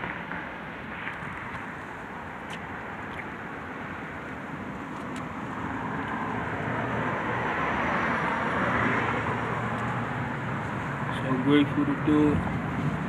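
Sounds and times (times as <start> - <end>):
vehicle passing: 1.0 - 13.0.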